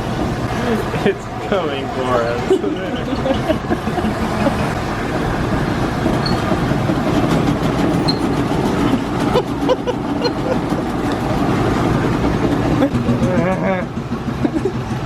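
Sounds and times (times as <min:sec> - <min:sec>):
washing machines banging: 0:00.0 - 0:15.0.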